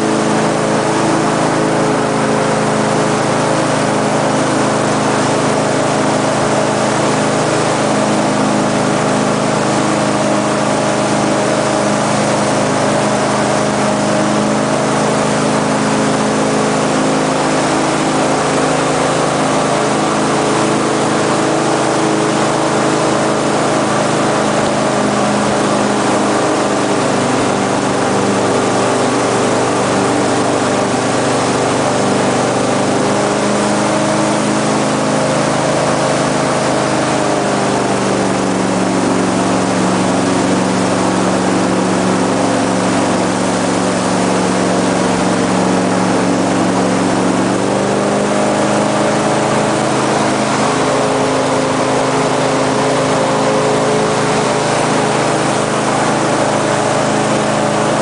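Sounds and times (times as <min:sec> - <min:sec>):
airboat engine and propeller: 0:00.0 - 0:58.0.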